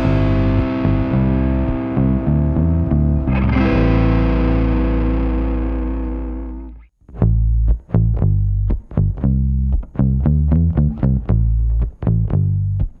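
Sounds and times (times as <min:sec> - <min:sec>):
distorted electric guitar music: 0:00.0 - 0:13.0.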